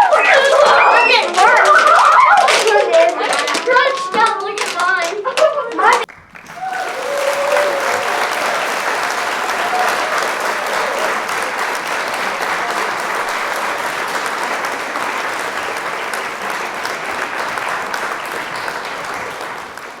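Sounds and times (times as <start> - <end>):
crowd applauding: 0.0 - 4.2, 5.9 - 20.0.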